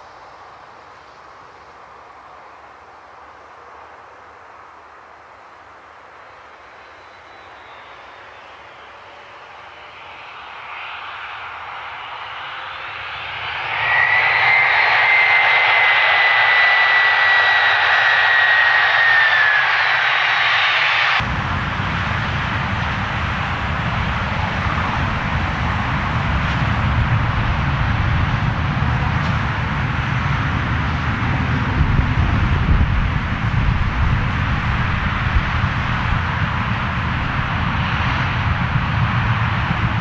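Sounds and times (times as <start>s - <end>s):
jet airliner landing: 0.0s - 40.0s
jet engine rumble: 0.0s - 40.0s.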